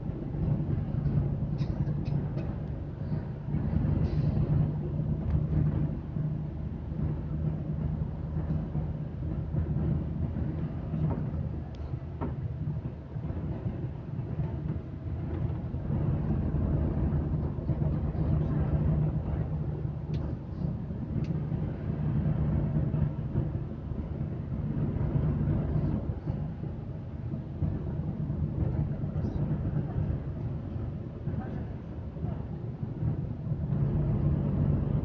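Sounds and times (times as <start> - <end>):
train rumbling inside carriage: 0.0 - 35.0.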